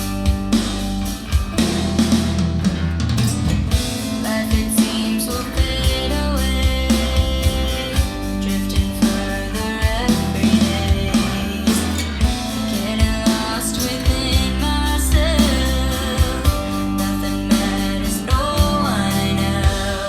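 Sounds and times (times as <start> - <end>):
drums with steady beat: 0.0 - 20.0
guitar: 0.0 - 20.0
person singing: 3.9 - 20.0.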